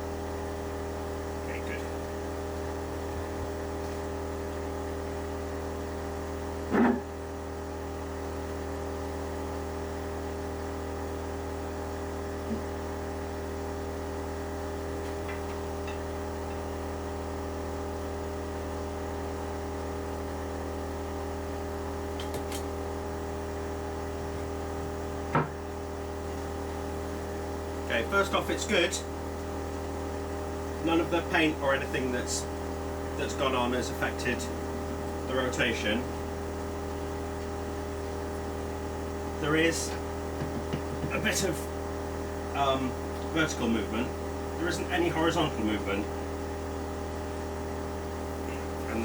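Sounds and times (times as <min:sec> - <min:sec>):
generator running: 0:00.0 - 0:49.0.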